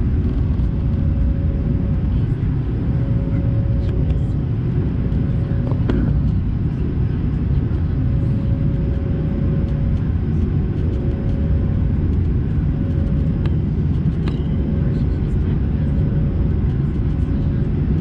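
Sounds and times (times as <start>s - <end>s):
airplane cabin roar: 0.0s - 18.0s
faint steady hum: 0.0s - 18.0s.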